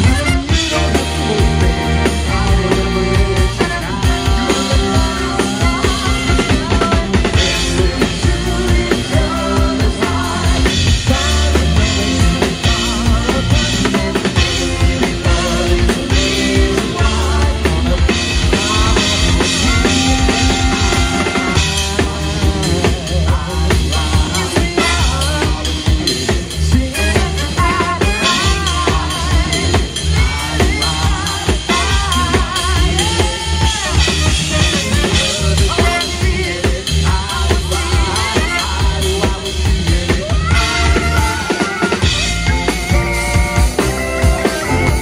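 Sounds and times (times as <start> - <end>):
drum kit with snare: 0.0 - 45.0
live swing band playing: 0.0 - 45.0.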